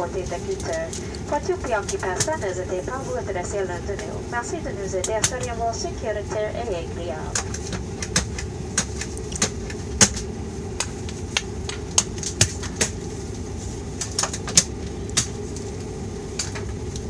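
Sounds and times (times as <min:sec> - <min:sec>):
turboprop engine low drone: 0:00.0 - 0:17.0.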